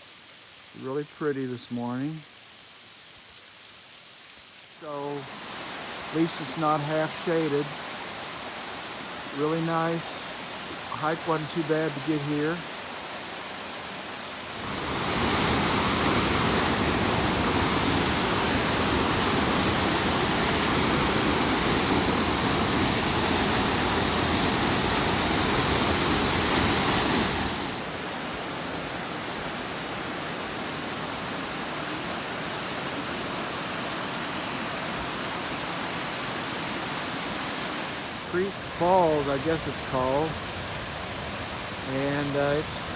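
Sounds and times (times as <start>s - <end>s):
waterfall rushing: 4.6s - 42.9s.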